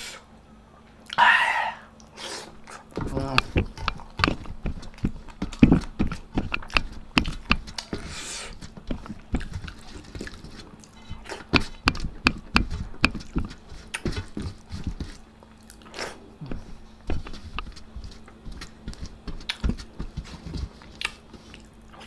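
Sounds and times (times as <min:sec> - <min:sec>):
chewing food: 0:02.0 - 0:16.7, 0:17.5 - 0:22.0.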